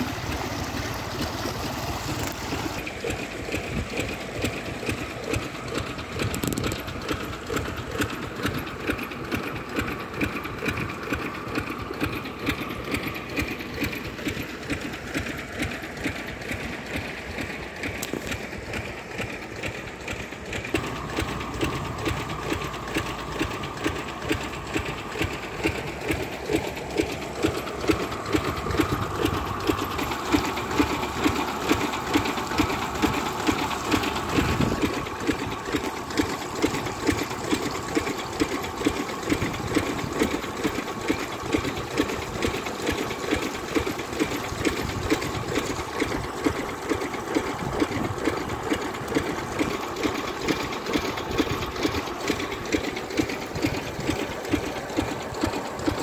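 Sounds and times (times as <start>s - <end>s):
farm engine running: 0.0s - 56.0s.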